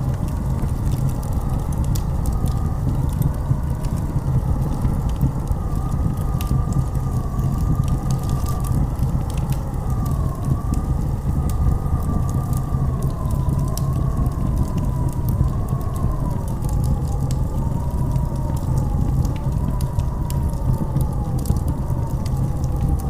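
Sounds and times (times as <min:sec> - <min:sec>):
blizzard wind howling: 0:00.0 - 0:23.0
deep steady rumble: 0:00.0 - 0:23.0.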